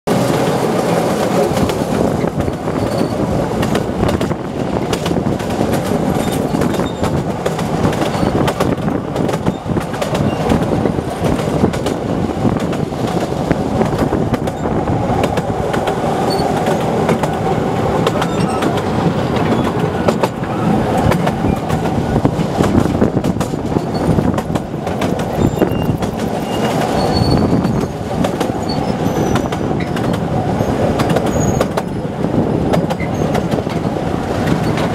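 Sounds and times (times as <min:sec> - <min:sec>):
train wheels rattling on rails: 0:00.1 - 0:34.9.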